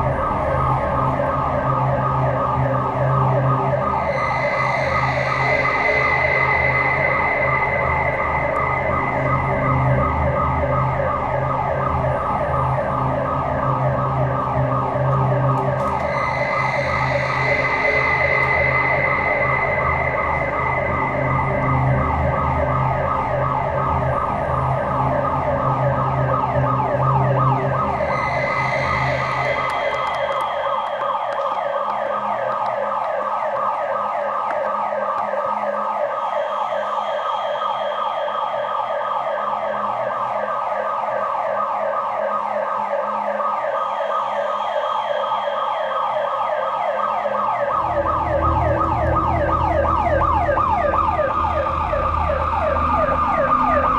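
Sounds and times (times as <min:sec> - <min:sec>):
building alarm sweeping siren tone: 0:00.0 - 0:53.9.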